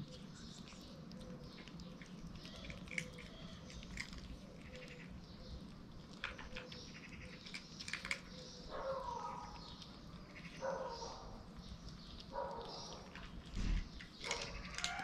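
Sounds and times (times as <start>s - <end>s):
kittens chewing and smacking: 0.0s - 15.0s.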